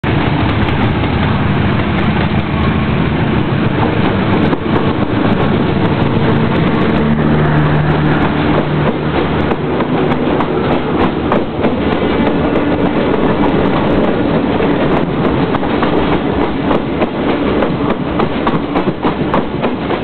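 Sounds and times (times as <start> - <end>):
diesel locomotive engine droning: 0.0 - 20.0
wheels rattling on rail: 0.0 - 20.0.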